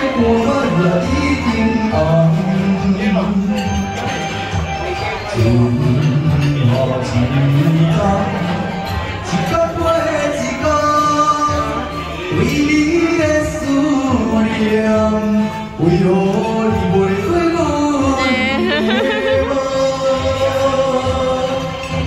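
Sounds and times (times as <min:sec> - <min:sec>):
musical accompaniment: 0:00.0 - 0:22.0
person singing slow melody: 0:00.0 - 0:22.0.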